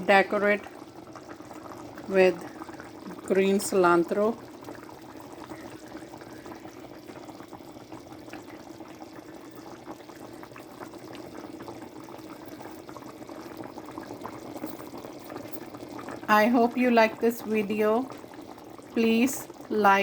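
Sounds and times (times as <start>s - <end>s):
curry bubbling in a pot: 0.0s - 20.0s.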